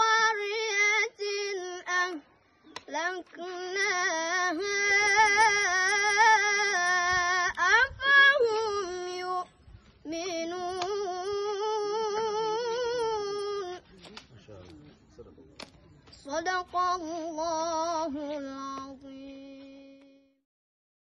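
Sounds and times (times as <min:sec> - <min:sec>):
boy chanting recitation: 0:00.0 - 0:20.4.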